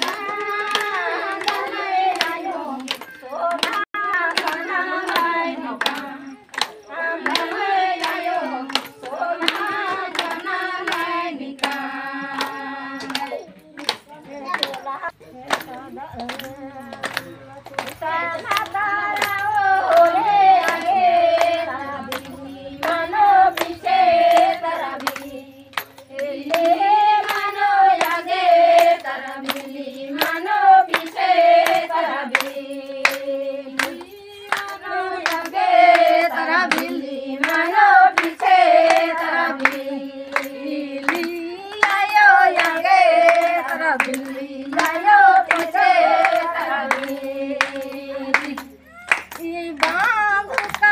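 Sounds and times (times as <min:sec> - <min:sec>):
rhythmic hand clapping: 0:00.0 - 0:50.9
women and girls singing: 0:00.0 - 0:50.9.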